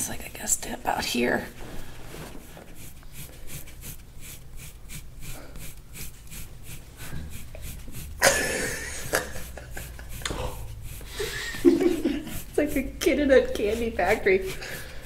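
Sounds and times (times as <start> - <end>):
tool scraping oiled skin: 1.1 - 15.0.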